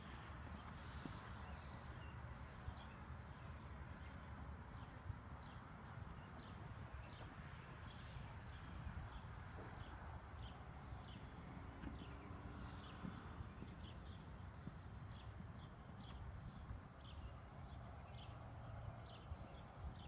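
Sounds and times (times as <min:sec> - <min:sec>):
horse hoofbeats on sand: 0:00.0 - 0:03.0, 0:04.7 - 0:20.0.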